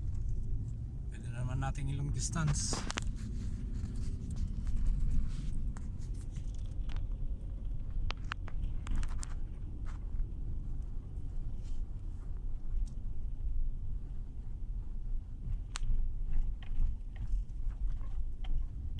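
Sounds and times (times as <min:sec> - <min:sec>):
car road and drivetrain rumble: 0:00.0 - 0:18.9.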